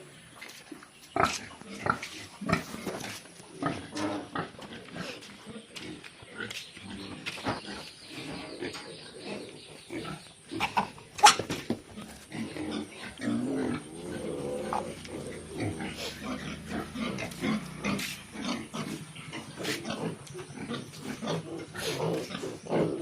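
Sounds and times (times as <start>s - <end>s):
pigs grunting: 1.2s - 23.0s.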